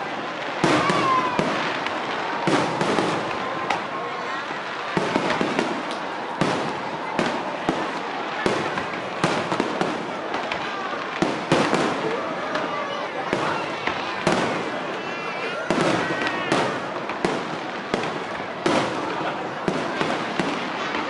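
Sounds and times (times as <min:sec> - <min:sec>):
crowd chatter: 0:00.0 - 0:21.0
fireworks bangs: 0:00.0 - 0:21.0.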